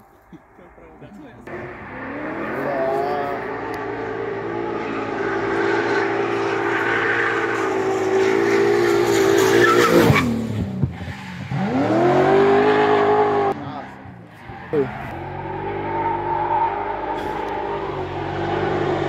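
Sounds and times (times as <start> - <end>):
race car engine at high revs: 1.4 - 19.0.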